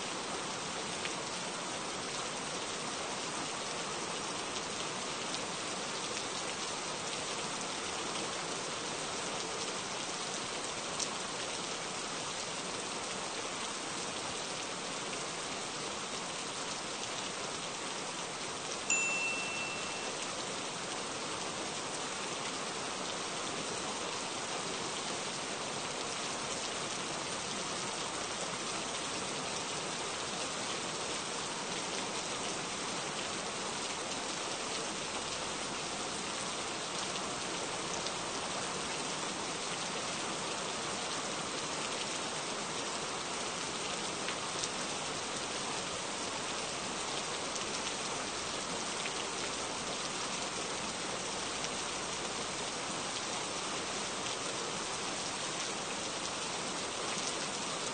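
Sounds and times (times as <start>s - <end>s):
gentle rain hiss: 0.0s - 57.9s.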